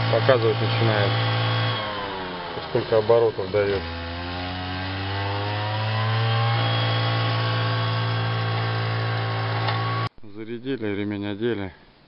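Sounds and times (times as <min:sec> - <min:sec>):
chainsaw engine running at high revs: 0:00.0 - 0:10.1.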